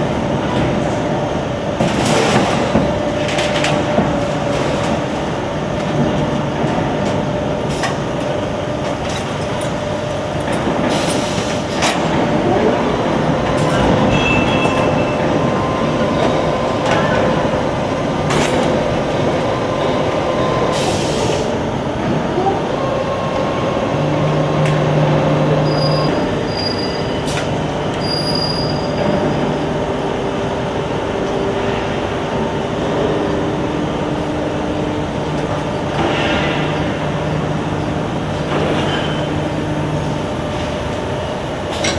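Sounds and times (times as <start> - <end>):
machine noise: 0.0 - 41.9.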